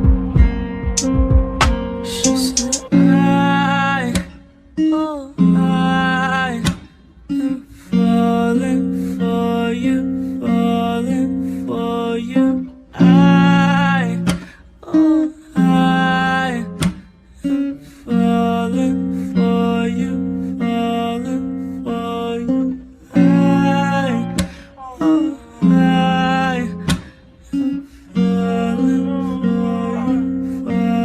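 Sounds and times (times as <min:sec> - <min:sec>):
plucked guitar music: 0:00.0 - 0:31.0.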